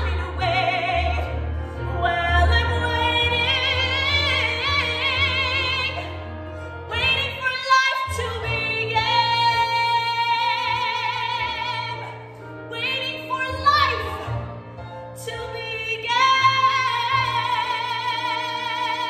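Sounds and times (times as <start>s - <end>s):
woman singing with vibrato: 0.0s - 6.3s, 6.9s - 19.0s.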